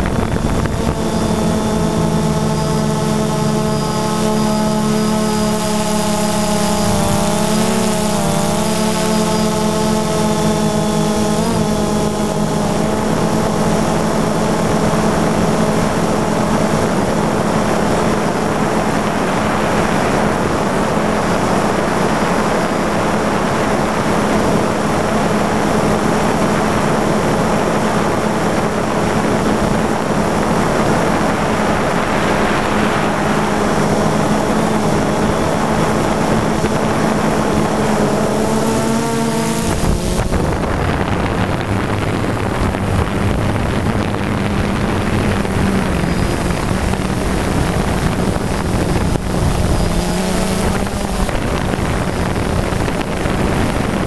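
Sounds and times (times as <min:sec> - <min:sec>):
drone motor whine: 0:00.0 - 0:54.0
drone propellers rushing: 0:00.0 - 0:54.0.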